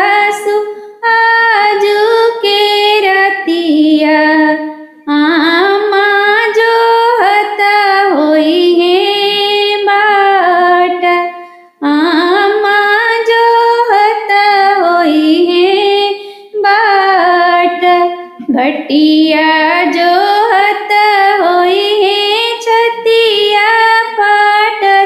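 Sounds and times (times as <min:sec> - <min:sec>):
woman singing folk song: 0:00.0 - 0:25.0.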